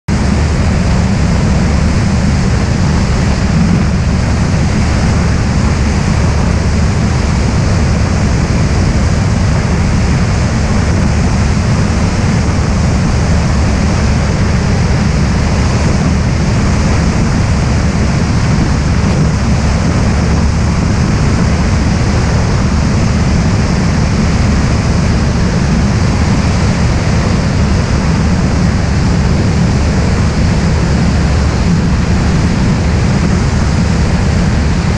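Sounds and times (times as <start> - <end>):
light aircraft engine and propeller: 0.1 - 34.9
wind rushing: 0.1 - 34.9.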